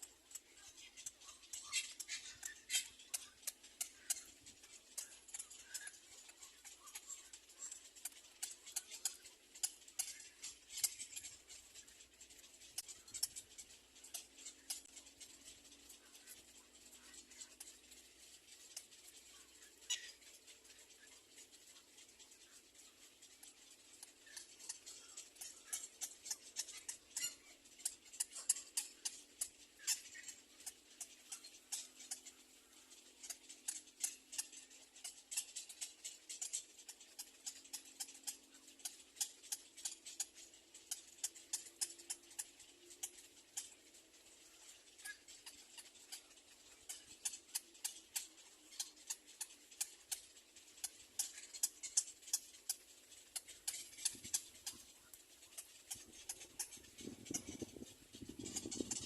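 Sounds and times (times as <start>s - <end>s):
birds clicking and rustling: 0.0s - 59.0s.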